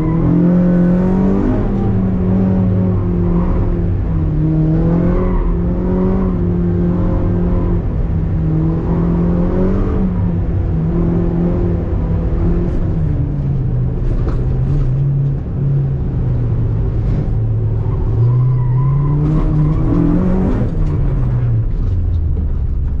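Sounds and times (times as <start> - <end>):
car engine revving: 0.0 - 22.4.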